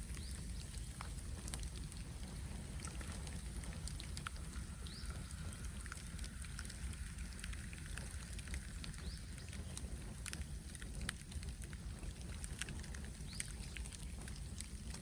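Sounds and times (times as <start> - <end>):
bamboo crackling and popping: 0.0 - 15.0
flames rumbling: 0.0 - 15.0.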